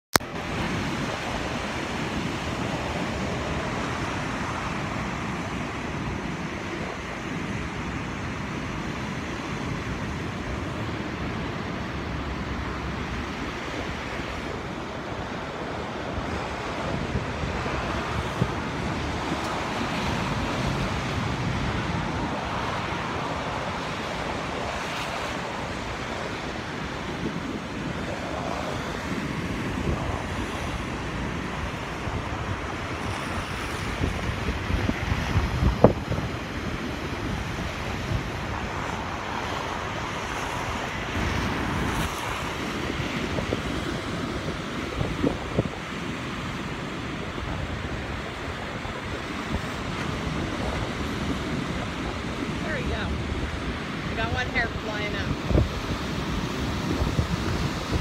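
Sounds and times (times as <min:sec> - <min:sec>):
surf breaking over rocks: 0:00.2 - 0:58.0.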